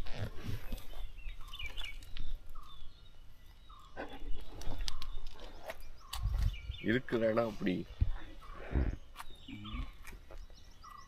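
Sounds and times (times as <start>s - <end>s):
bird chirps: 0.1s - 11.0s.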